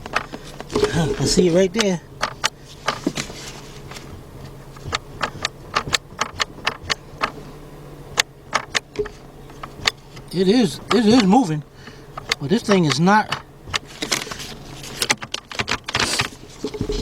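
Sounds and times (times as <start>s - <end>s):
shifter mechanism clicking: 0.0s - 17.0s
steady low hum: 0.0s - 17.0s.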